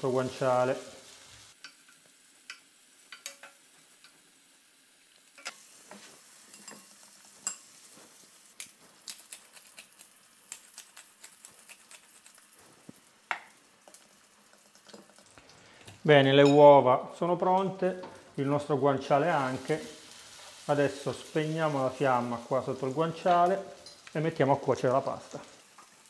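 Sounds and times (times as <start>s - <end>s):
meat sizzling in a pan: 0.0s - 16.2s, 17.7s - 26.0s.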